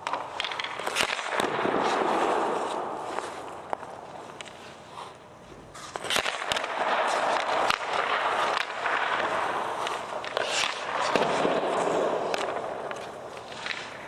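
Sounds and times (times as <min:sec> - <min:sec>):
hockey stick striking puck: 0:00.0 - 0:04.8, 0:05.7 - 0:14.0
skate blades scraping on ice: 0:00.0 - 0:14.0.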